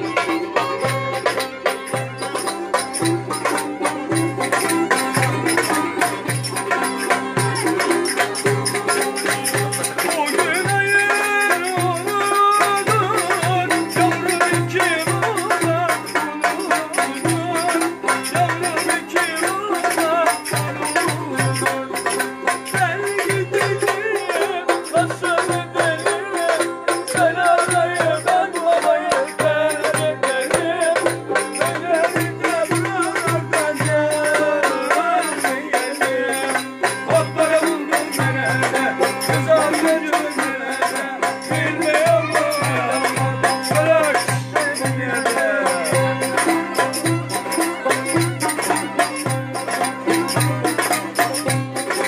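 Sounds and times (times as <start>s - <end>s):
goblet drum beat: 0.0s - 52.0s
long-necked lute: 0.0s - 52.0s
violin melody: 0.0s - 52.0s.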